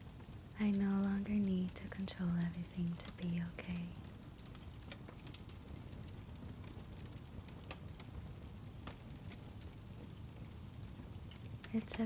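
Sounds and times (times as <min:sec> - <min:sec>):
fire crackling: 0:00.0 - 0:12.0.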